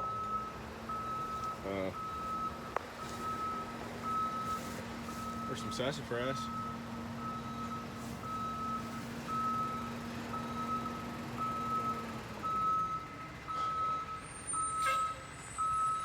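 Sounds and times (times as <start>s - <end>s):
reversing alarm beeping: 0.0s - 16.0s.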